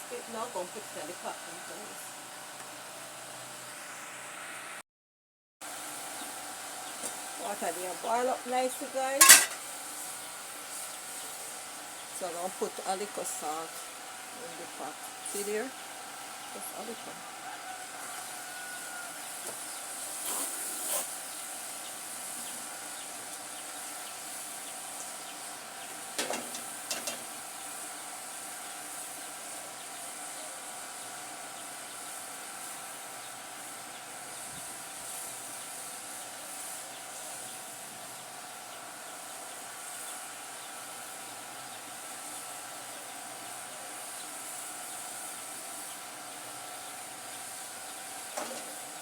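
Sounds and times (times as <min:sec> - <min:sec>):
pot of water boiling: 0:00.0 - 0:03.7, 0:05.6 - 0:49.0.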